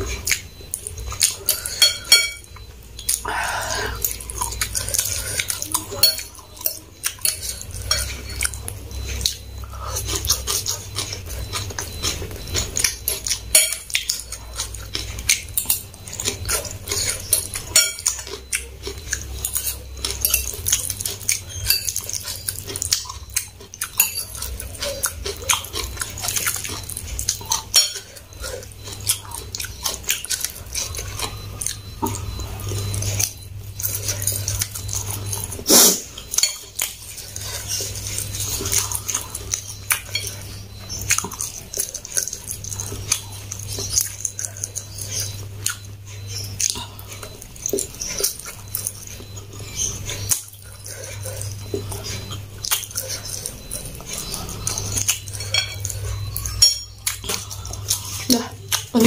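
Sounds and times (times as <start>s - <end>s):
noodles slurped and chewed: 0.0s - 59.0s.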